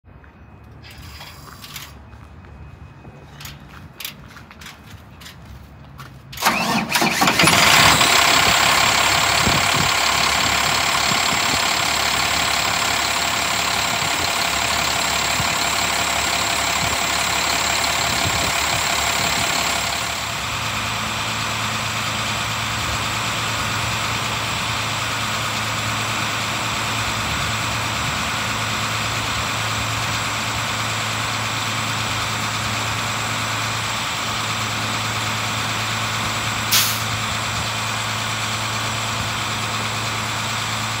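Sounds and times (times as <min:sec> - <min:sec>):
diesel truck engine starting: 0:06.3 - 0:41.0
diesel truck engine idling: 0:06.4 - 0:41.0.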